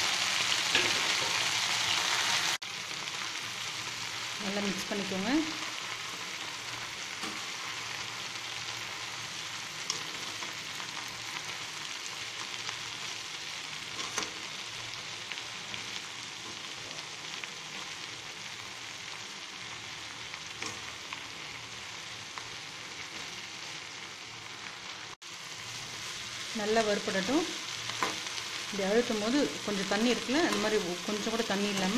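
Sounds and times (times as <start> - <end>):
leaves sizzling in hot oil: 0.0 - 31.9.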